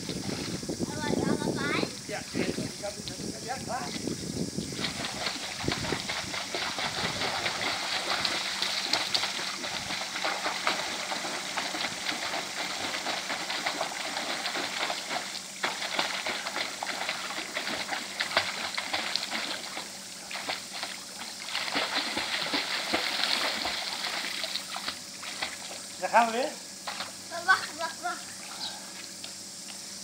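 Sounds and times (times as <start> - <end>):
splashing from flutter kicks: 1.8 - 27.8.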